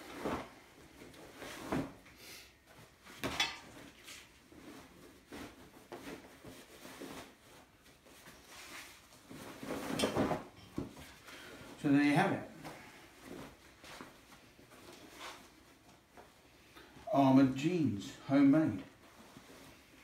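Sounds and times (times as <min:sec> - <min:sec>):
heavy fabric rustling: 0:00.0 - 0:02.0, 0:02.7 - 0:16.7, 0:18.9 - 0:20.0.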